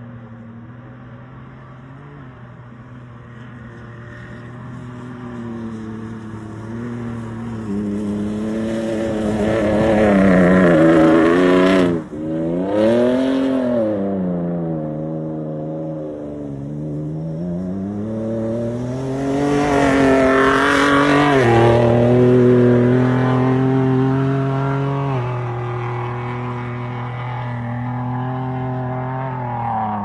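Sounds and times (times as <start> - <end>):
car engine revving: 5.6 - 30.0.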